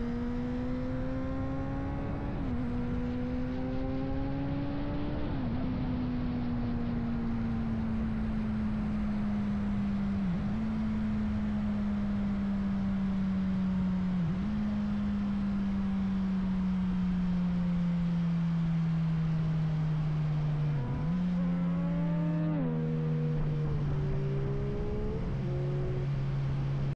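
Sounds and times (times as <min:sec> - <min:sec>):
motorcycle engine cruising: 0:00.0 - 0:26.9.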